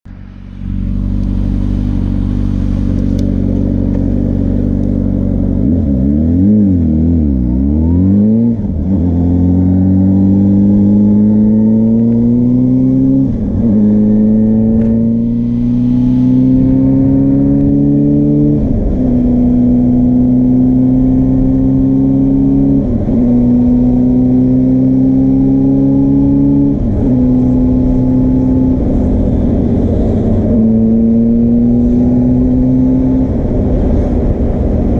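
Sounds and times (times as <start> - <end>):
motorcycle engine revving and accelerating: 0.1 - 34.9.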